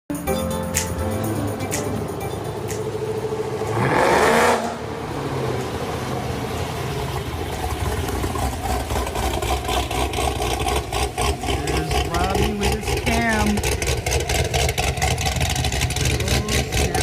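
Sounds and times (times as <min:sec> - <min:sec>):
car engine revving and idling: 0:01.2 - 0:17.0.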